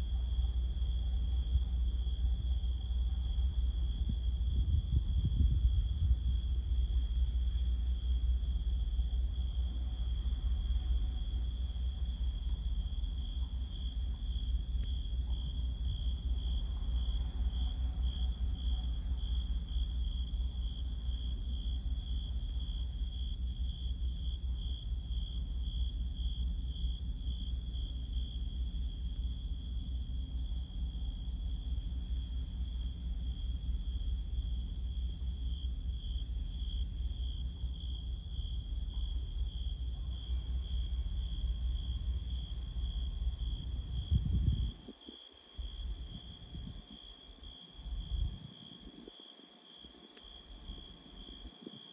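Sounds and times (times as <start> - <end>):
steady low rumble: 0.0 - 49.1
crickets chirping: 0.0 - 51.9.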